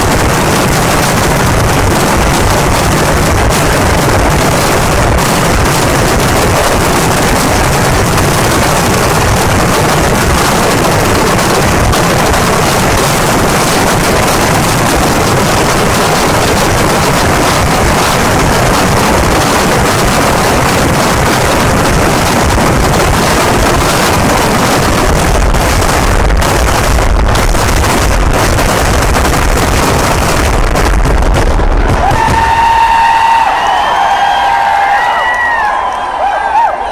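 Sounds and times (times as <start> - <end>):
firecrackers barrage: 0.0 - 36.9.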